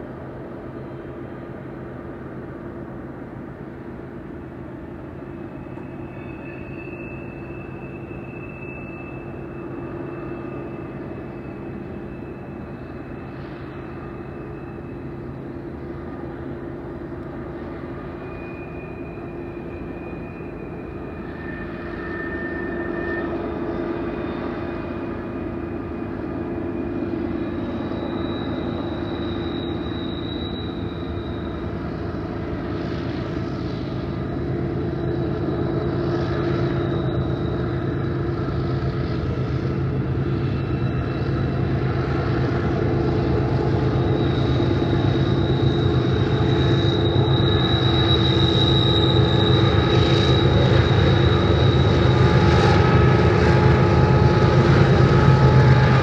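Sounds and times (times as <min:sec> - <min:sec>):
locomotive engine drone: 0:00.0 - 0:56.0
wheel flange squeals: 0:04.7 - 0:56.0.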